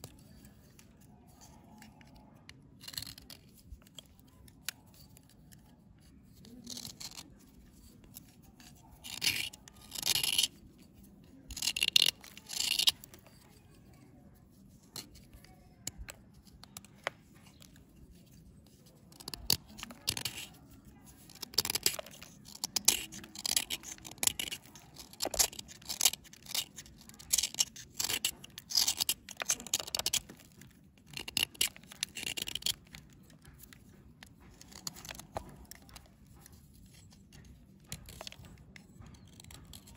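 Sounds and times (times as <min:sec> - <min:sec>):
knife scraping crumbly bar: 0:02.8 - 0:10.6, 0:11.5 - 0:13.9, 0:14.9 - 0:37.3.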